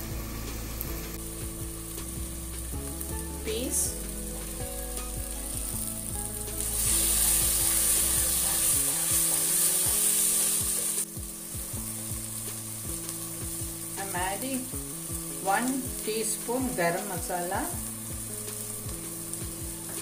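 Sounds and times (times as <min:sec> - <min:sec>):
sauce sizzling in a pan: 0:00.0 - 0:20.0.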